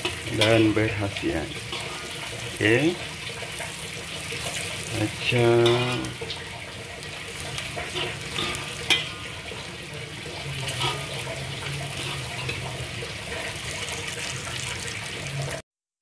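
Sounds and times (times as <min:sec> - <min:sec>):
food sizzling in oil: 0:00.0 - 0:15.6
metal spatula scraping a pan: 0:00.0 - 0:15.6.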